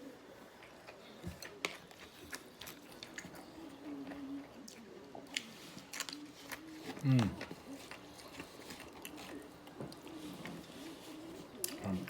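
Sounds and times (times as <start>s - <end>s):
person chewing food: 0.4s - 12.0s.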